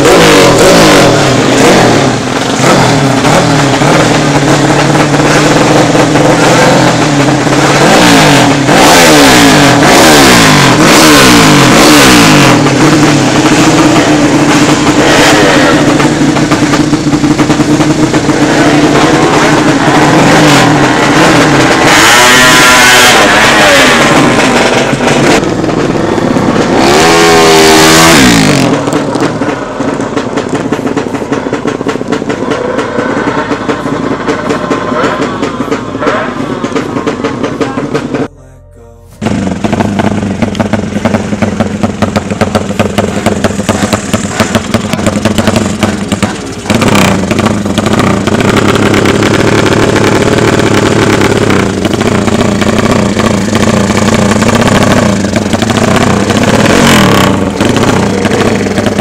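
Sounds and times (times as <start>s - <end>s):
motorcycle engine revving: 0.0s - 38.3s, 39.2s - 59.0s.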